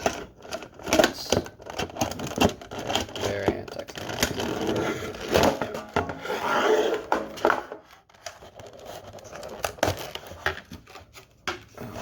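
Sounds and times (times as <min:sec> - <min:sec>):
packaging rubbing and rustling: 0:00.0 - 0:05.8, 0:06.5 - 0:12.0.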